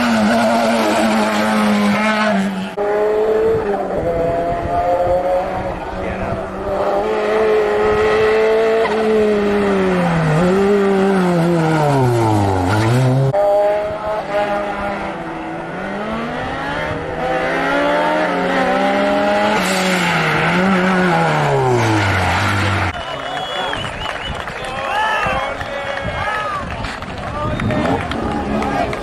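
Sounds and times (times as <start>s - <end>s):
race car engine downshifting: 0.0s - 24.3s.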